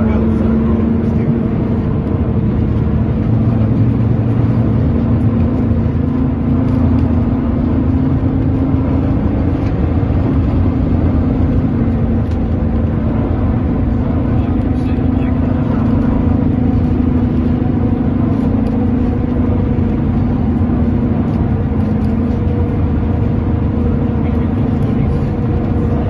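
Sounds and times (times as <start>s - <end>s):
running gear hum: 0.0s - 26.0s
tram wheels rumbling on rails: 0.0s - 26.0s.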